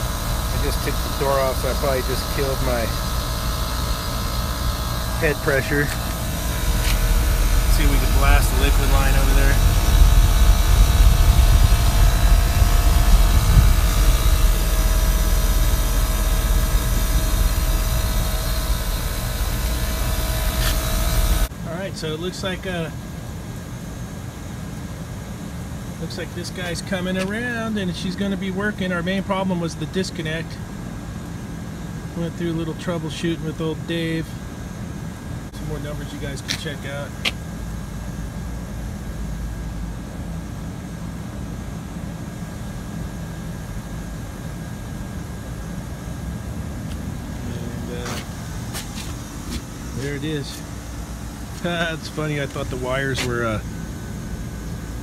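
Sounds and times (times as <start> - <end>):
heat pump compressor and fan: 0.0 - 55.0.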